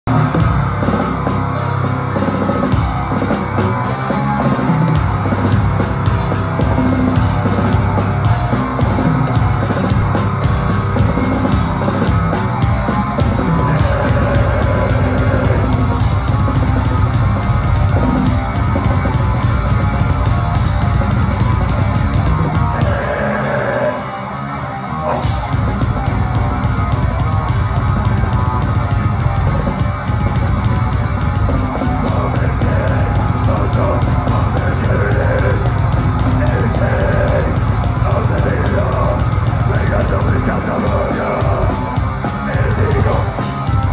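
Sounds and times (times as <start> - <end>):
heavy metal band playing live: 0.0 - 43.9.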